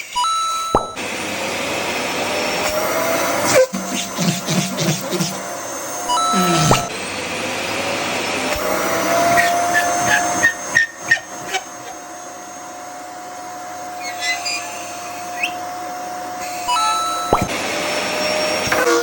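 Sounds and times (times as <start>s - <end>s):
vacuum cleaner running: 1.0s - 19.0s.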